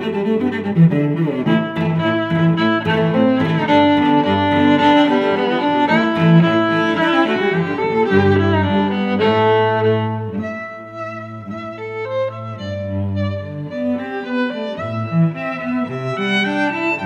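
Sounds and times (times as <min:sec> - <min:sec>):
bowed strings playing slow notes: 0:00.0 - 0:17.0.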